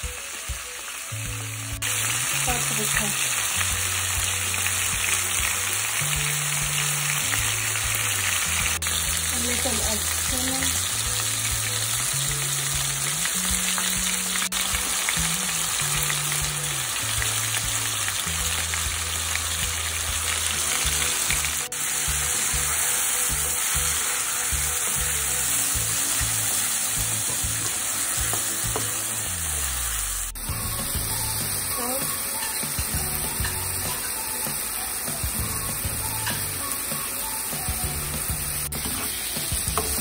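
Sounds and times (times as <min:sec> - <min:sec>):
background music bass line: 0:00.0 - 0:40.0
chicken sizzling in hot oil: 0:00.0 - 0:40.0.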